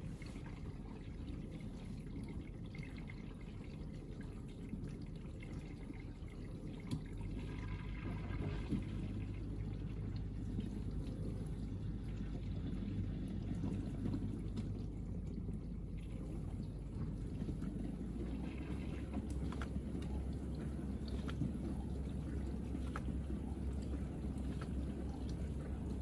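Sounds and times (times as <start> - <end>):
dishwasher pump hum: 0.0 - 26.0
water spraying and sloshing: 0.0 - 26.0.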